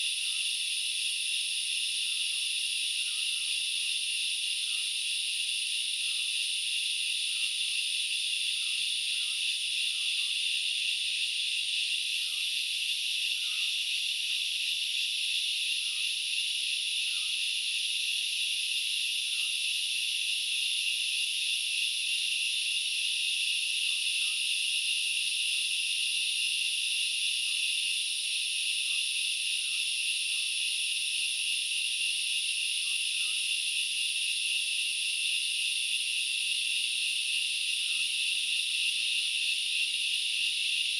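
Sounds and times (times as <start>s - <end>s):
forest insects buzzing: 0.0s - 40.9s.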